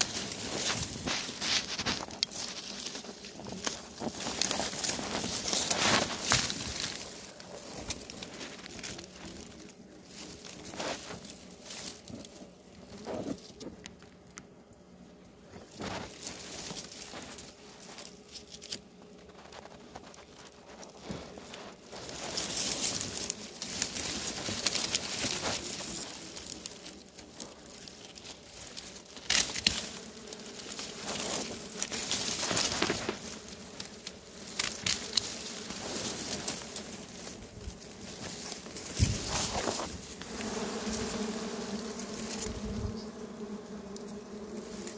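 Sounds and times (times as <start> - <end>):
dry grass rustling and snapping: 0.0 - 44.9
honeybees buzzing: 0.0 - 44.9.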